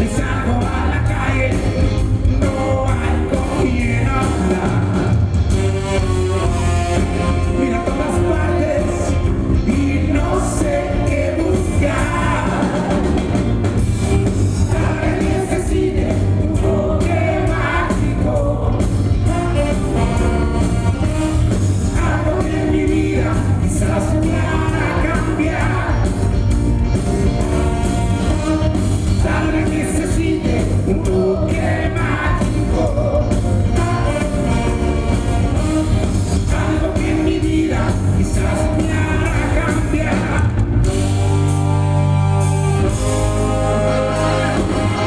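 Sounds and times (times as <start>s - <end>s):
live rock band with vocals: 0.0s - 45.0s.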